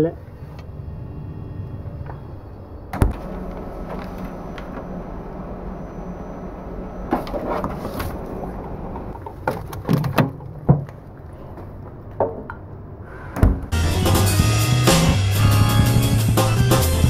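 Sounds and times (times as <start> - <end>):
low refrigerator hum: 0.0 - 17.0.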